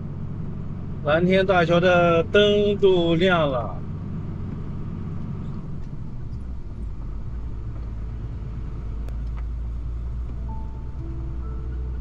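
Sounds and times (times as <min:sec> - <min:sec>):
truck engine and tyres droning: 0:00.0 - 0:12.0.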